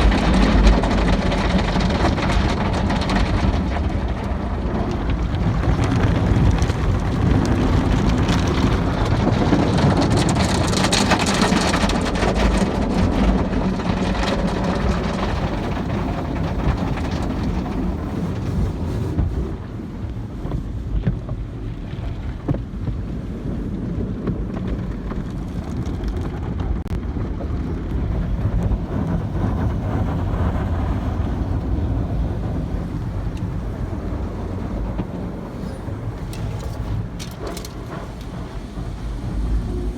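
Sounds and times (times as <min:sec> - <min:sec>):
car wash water spray: 0:00.0 - 0:21.1, 0:28.2 - 0:39.9
car wash machinery: 0:00.0 - 0:39.9.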